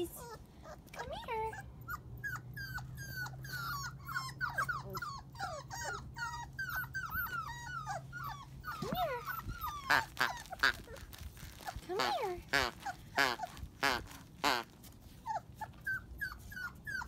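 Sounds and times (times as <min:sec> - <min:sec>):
puppies whimpering: 0:00.0 - 0:11.9, 0:14.7 - 0:17.0
puppy whining: 0:00.0 - 0:17.0.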